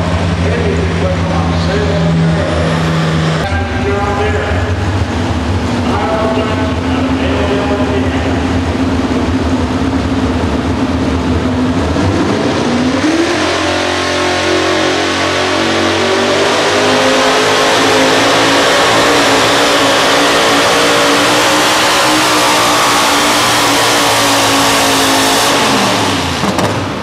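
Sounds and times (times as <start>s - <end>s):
truck engine idling and revving: 0.0s - 27.0s.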